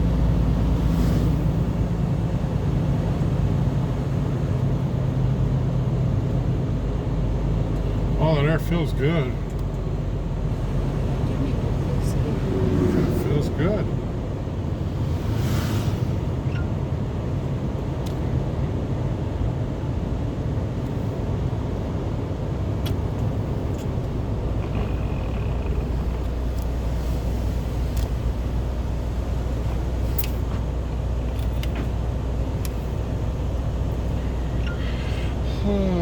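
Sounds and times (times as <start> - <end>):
car engine and tyres on road: 0.0 - 36.0.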